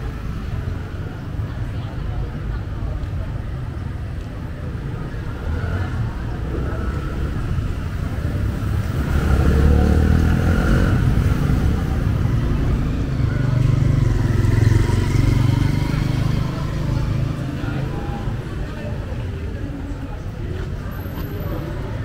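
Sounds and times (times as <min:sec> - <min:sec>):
motorbike engines running: 0:00.0 - 0:22.0
street traffic: 0:00.0 - 0:22.0.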